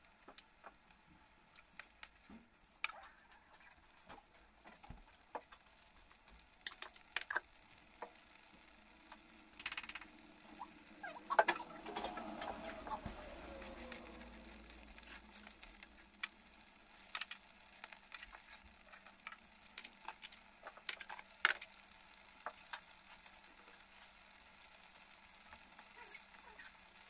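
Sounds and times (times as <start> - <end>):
pickle bubbling in a pan: 0.0 - 27.0.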